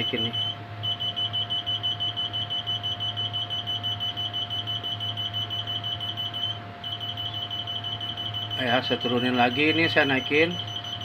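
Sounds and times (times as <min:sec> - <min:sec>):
low electrical hum: 0:00.0 - 0:11.0
rapid high electronic beeping: 0:00.0 - 0:11.0.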